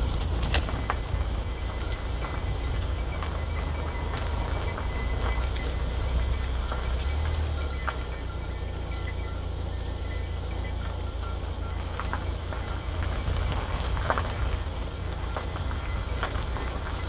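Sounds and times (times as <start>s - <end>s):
car engine running: 0.0s - 17.0s
hoof clicks on gravel: 0.0s - 17.0s.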